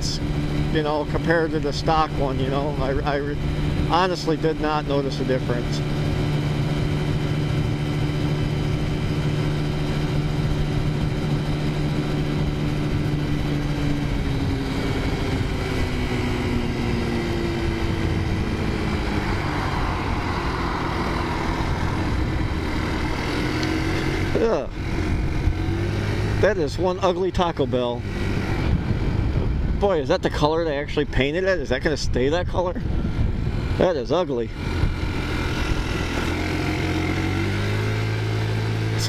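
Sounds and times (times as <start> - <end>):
scooter engine running: 0.0 - 31.4, 32.8 - 39.0.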